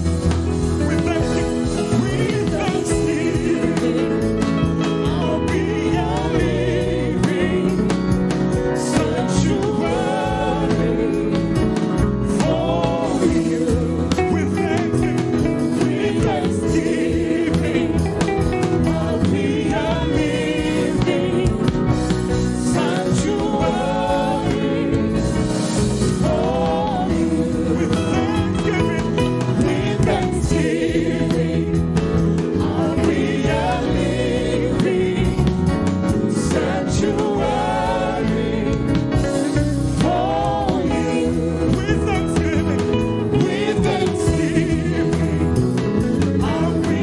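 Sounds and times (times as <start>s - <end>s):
band playing: 0.0s - 47.0s
group singing gospel: 0.0s - 47.0s.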